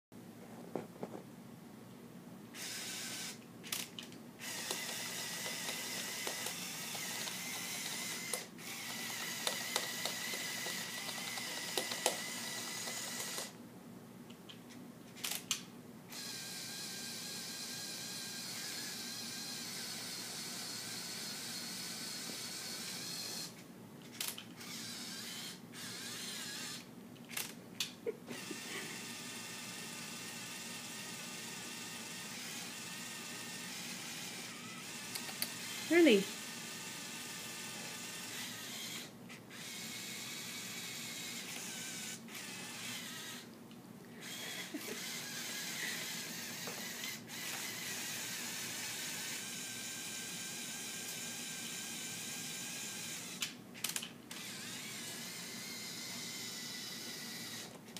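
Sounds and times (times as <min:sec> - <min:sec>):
electric motors and gears whirring: 0:02.6 - 0:13.6, 0:15.1 - 0:43.6, 0:44.2 - 0:57.9.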